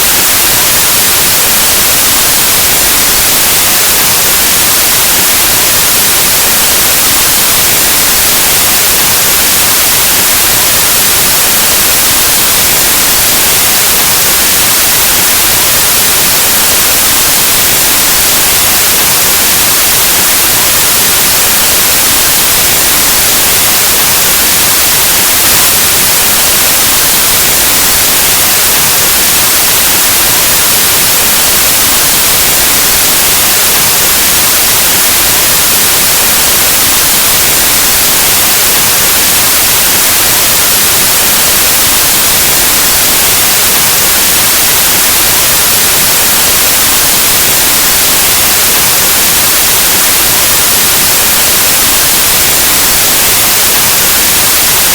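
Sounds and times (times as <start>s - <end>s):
white noise static hiss: 0.0s - 54.9s.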